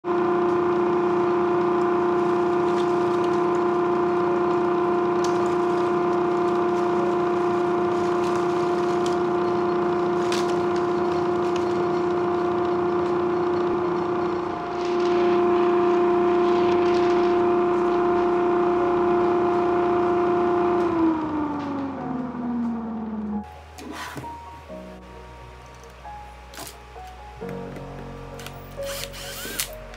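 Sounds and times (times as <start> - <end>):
blower high-pitched whine: 0.0 - 25.4, 27.4 - 29.9.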